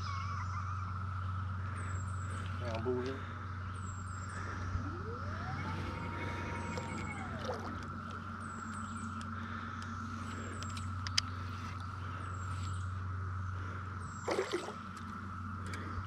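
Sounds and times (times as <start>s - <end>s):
cicadas droning chorus: 0.0s - 16.0s
low steady hum: 0.0s - 16.0s
rising whine: 0.0s - 16.0s.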